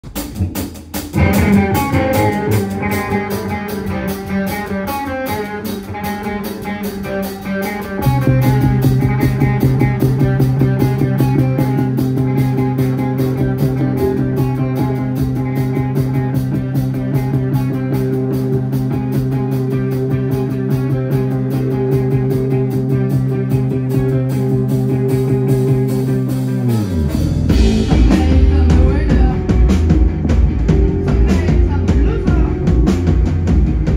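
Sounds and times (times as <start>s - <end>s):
drum kit fast beat: 0.0s - 33.9s
electric guitars: 0.0s - 33.9s
keyboards: 0.0s - 33.9s.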